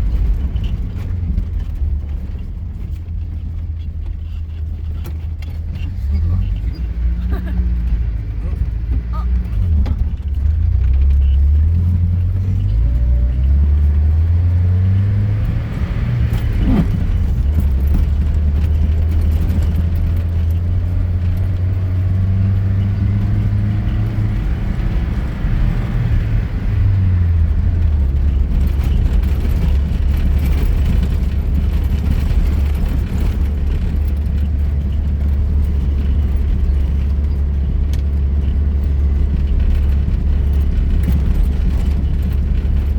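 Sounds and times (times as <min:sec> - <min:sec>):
road noise: 0:00.0 - 0:42.9
car engine revving: 0:05.5 - 0:42.9.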